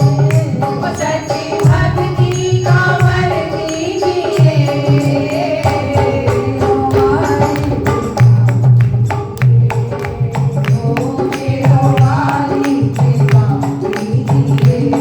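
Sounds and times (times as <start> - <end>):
sharp percussion strokes: 0.0 - 15.0
steady drum beat: 0.0 - 15.0.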